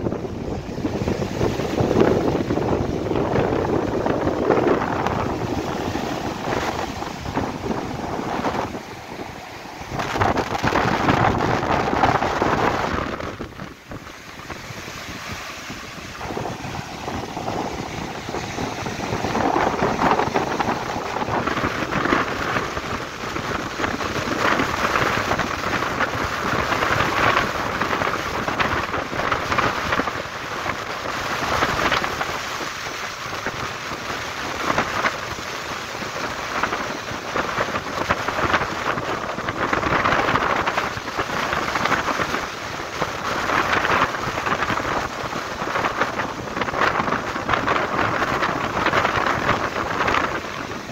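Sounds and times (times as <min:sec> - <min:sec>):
surf breaking on beach: 0:00.0 - 0:50.9
wind on microphone: 0:00.0 - 0:50.9.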